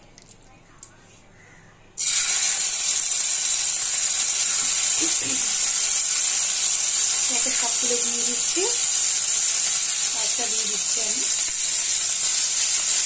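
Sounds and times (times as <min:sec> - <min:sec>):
chicken sizzling in hot oil: 0:02.0 - 0:13.0.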